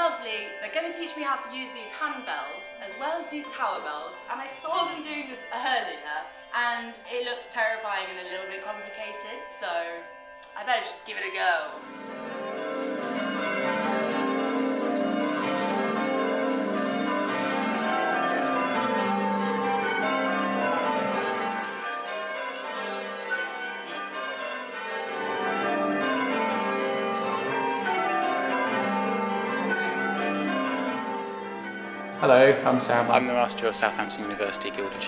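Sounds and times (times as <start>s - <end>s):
church bells ringing changes: 0.0s - 35.0s.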